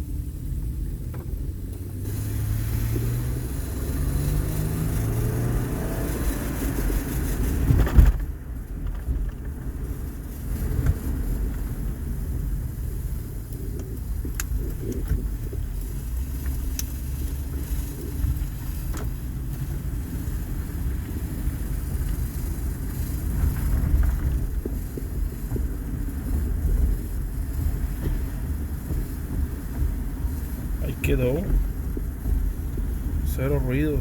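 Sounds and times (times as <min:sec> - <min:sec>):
road and engine rumble: 0:00.0 - 0:34.0.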